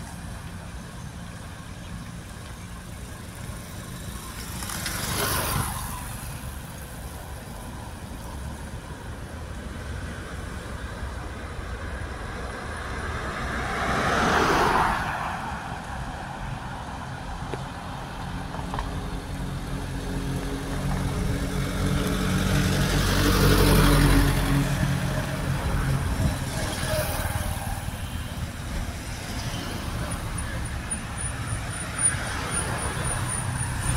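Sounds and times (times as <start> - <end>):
vehicles driving past: 0.0 - 33.9.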